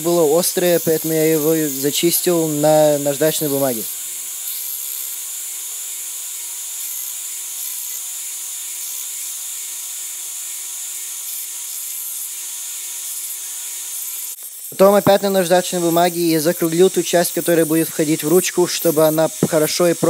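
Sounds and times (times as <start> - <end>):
belt sander running: 0.0 - 20.0.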